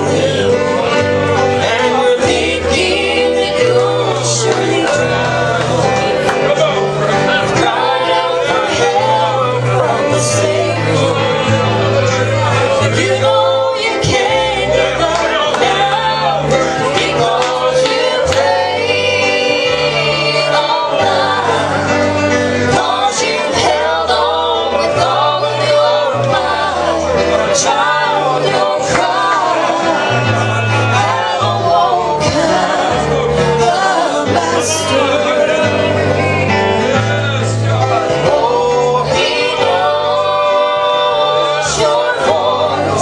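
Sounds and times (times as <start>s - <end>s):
bass line: 0.0s - 43.0s
gospel singing: 0.0s - 43.0s
instrumental backing: 0.0s - 43.0s.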